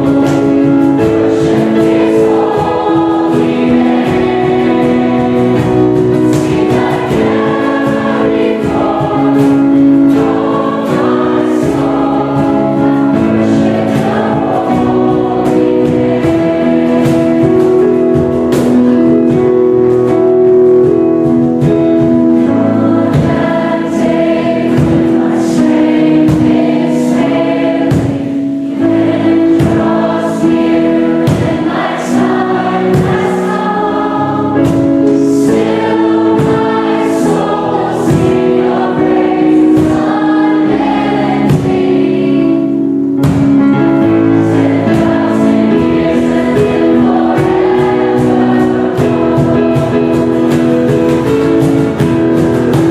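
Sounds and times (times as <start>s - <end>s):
choir singing worship song: 0.0s - 52.9s
instrumental accompaniment: 0.0s - 52.9s.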